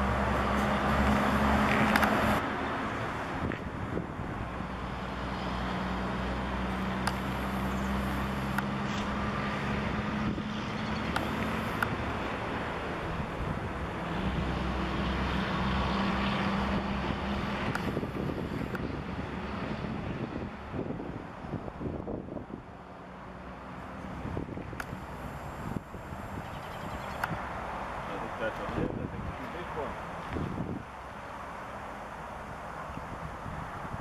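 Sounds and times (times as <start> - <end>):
low engine hum: 0.0 - 34.0
traffic hiss: 0.0 - 34.0.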